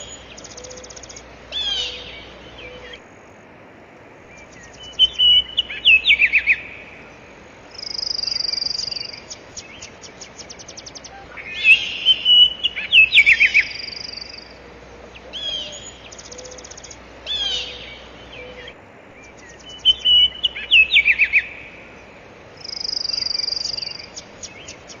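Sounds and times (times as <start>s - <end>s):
birds chirping and trilling: 0.0s - 3.0s, 4.3s - 25.0s
faint steady hiss: 0.0s - 25.0s.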